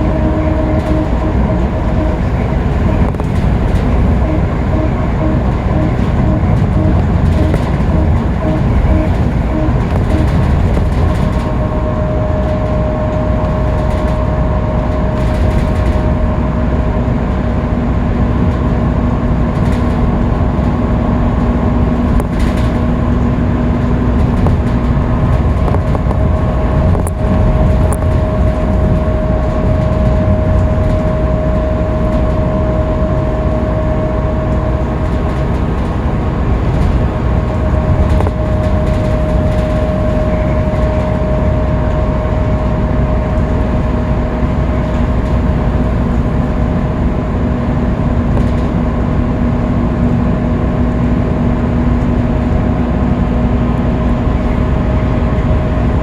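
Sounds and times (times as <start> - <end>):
bus engine and road rumble: 0.0 - 56.0
lower whine: 0.0 - 56.0
steady whine: 0.0 - 56.0.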